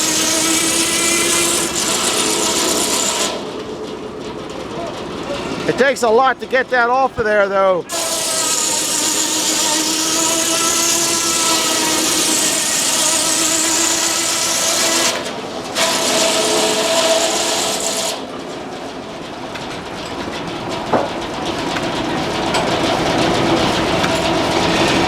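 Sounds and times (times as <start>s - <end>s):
circular saw cutting log: 0.0s - 3.7s, 5.2s - 18.5s, 20.9s - 25.0s
sawmill machinery running: 0.0s - 25.0s.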